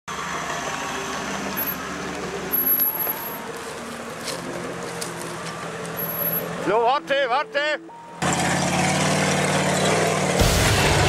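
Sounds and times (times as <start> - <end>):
buggy engine running: 0.1 - 7.2, 8.2 - 11.0.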